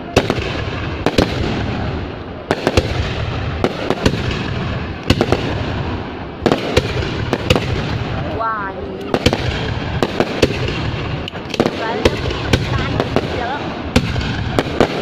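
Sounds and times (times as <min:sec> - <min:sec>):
fireworks rumble: 0:00.0 - 0:15.0
sharp firework bangs: 0:00.0 - 0:15.0.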